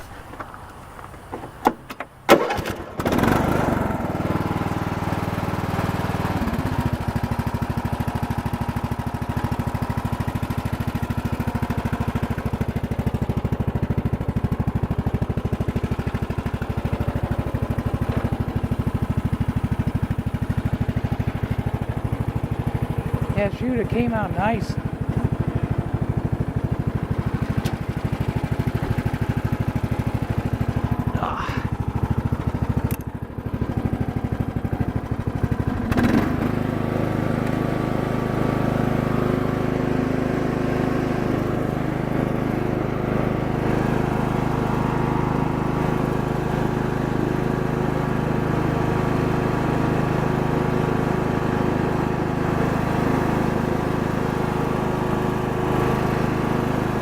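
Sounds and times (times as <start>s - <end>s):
lawn tractor engine: 0.0s - 57.0s.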